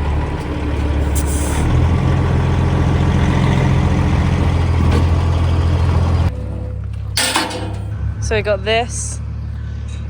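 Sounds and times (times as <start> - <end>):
diesel truck engine running: 0.0 - 9.9.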